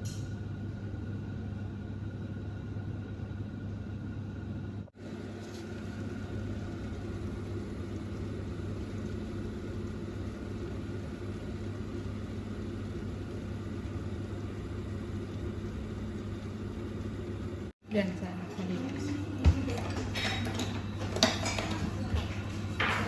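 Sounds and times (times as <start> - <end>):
motor or fan humming: 0.0 - 23.0.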